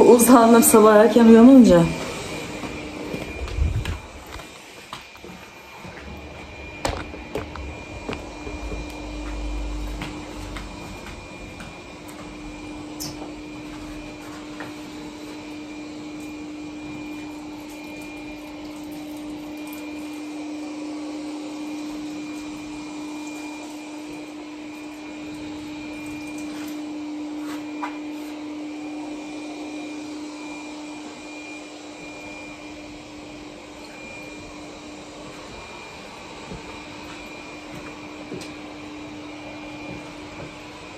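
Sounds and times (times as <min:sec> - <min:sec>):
vacuum cleaner motor humming: 0:00.0 - 0:40.9.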